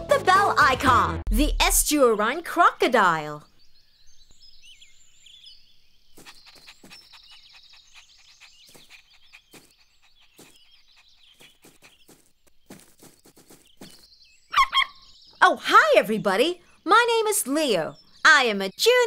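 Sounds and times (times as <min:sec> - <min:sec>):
small birds chirping: 0:01.8 - 0:19.0.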